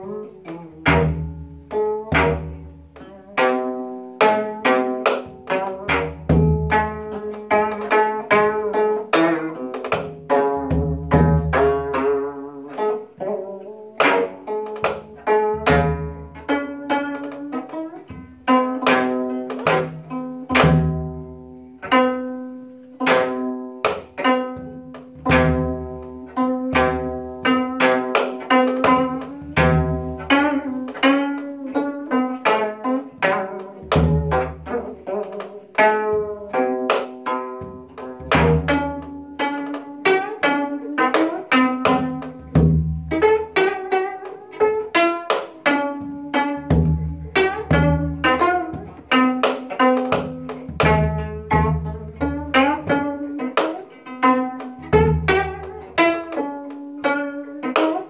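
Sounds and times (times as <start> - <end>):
hand drum strokes: 0.0 - 58.0
plucked zither notes: 0.0 - 58.0.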